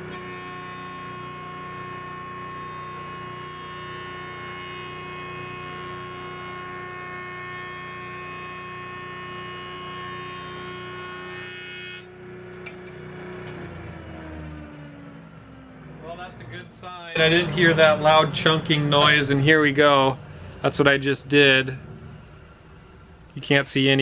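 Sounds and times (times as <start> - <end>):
jointer humming and whining: 0.0 - 24.0.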